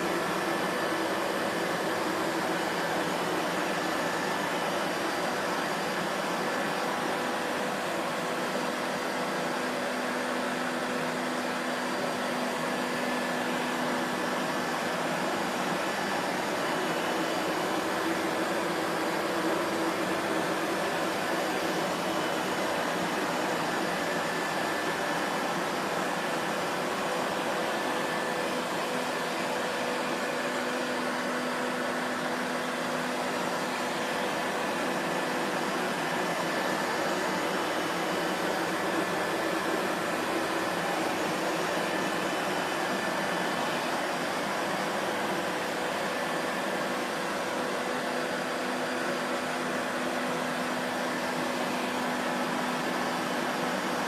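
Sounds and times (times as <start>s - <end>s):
vacuum cleaner motor whirring: 0.0s - 54.0s.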